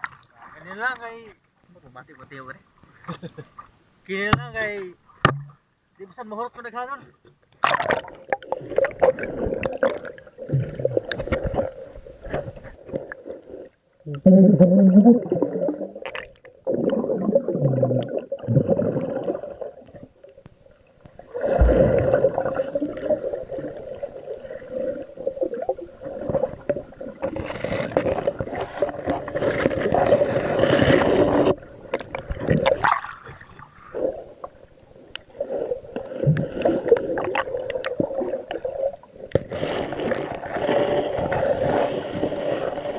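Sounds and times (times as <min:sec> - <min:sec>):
underwater gurgling and sloshing: 0:00.0 - 0:00.8, 0:07.4 - 0:42.9
faint steady hum: 0:00.0 - 0:42.9.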